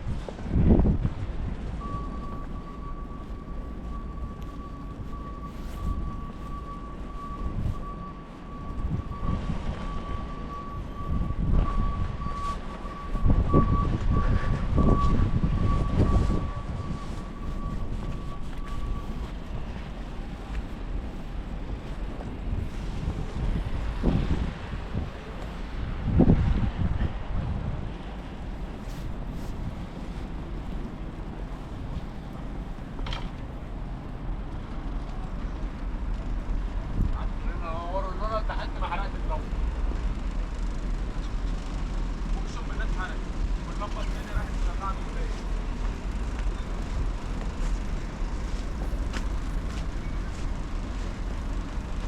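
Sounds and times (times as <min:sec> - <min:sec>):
wind rumbling on microphone: 0:00.0 - 0:52.0.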